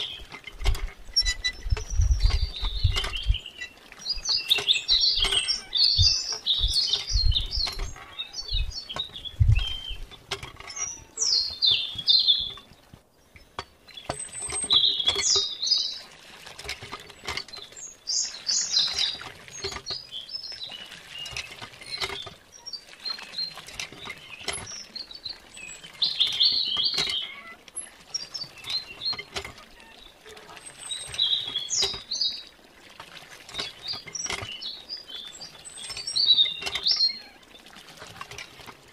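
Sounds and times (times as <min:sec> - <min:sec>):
small birds chirping: 0:00.0 - 0:00.3, 0:01.0 - 0:16.1, 0:17.5 - 0:32.6, 0:33.5 - 0:37.8
water splashing into pond: 0:00.0 - 0:38.9.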